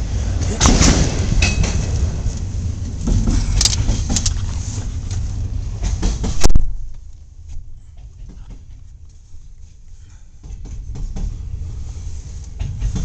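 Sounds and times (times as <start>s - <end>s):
freight train cars rumbling: 0.0s - 13.0s.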